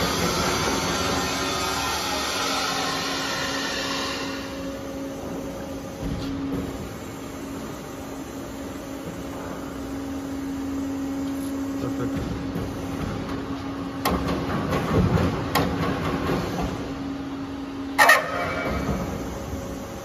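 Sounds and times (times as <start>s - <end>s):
plate rolling machine humming: 0.0s - 20.0s.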